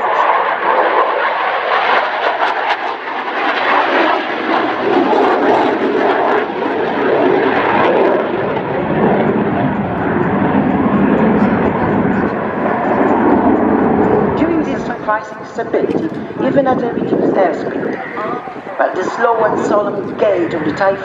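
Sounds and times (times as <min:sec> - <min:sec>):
jet aircraft engine: 0:00.0 - 0:21.0.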